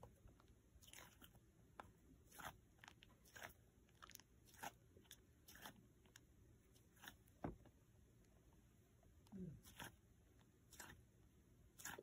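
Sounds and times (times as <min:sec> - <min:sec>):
stress ball squishing: 0:00.0 - 0:12.0.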